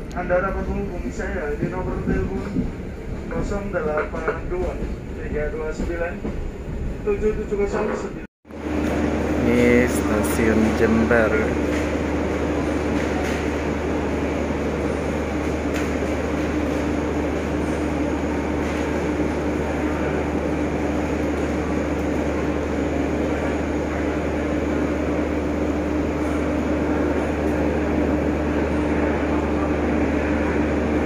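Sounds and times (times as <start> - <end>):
train mechanical hum: 0.0 - 31.0.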